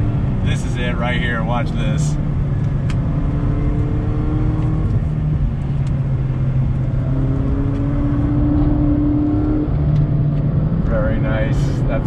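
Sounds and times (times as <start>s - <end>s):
car engine pulling under throttle: 0.0s - 12.0s.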